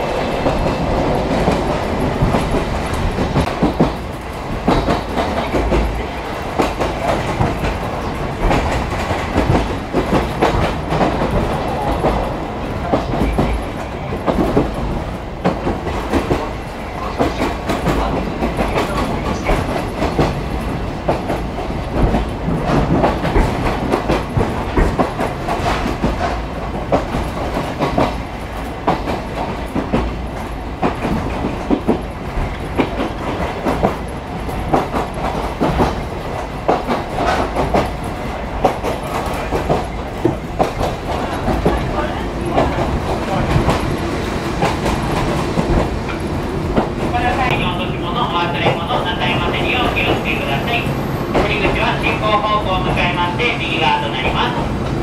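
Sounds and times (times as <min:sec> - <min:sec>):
train coach running noise: 0:00.0 - 0:55.0.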